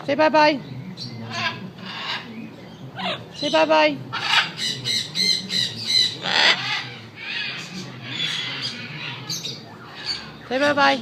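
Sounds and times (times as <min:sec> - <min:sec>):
macaws squawking: 0:01.2 - 0:11.0.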